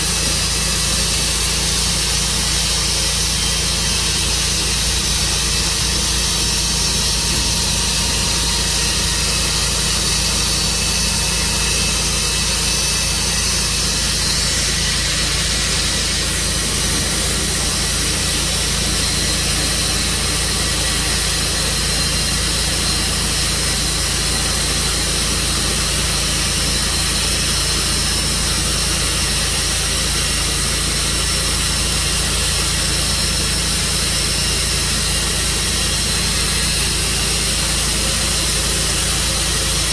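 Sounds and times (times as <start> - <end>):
saw hissing through log: 0.0 - 39.9
sawmill engine droning: 0.0 - 39.9.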